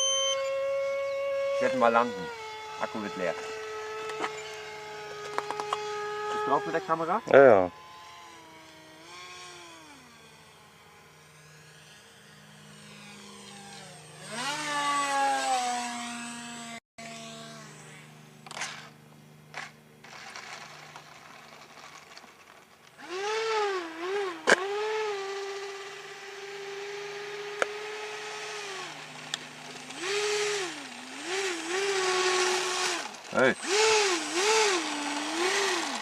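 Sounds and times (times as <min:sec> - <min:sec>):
model jet fan whining: 0:00.0 - 0:36.0.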